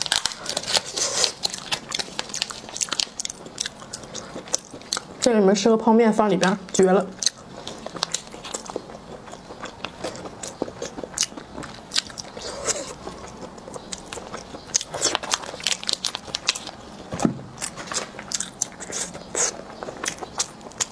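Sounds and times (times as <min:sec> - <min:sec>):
biting and chewing: 0:00.0 - 0:05.4, 0:06.6 - 0:20.9.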